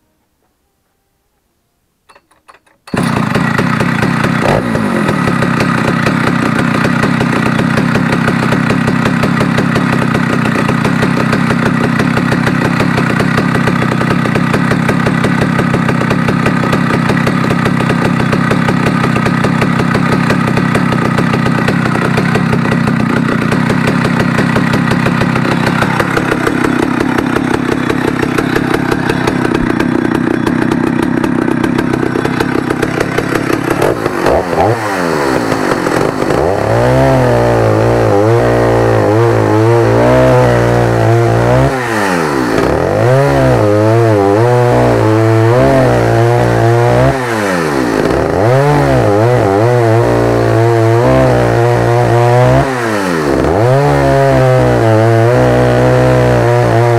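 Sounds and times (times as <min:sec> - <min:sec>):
chainsaw engine idling: 0:02.9 - 0:56.9
chainsaw revving: 0:02.9 - 0:56.9.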